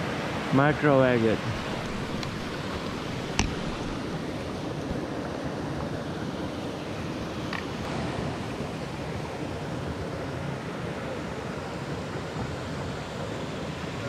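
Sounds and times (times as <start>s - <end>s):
creek flowing over rocks: 0.0s - 14.0s.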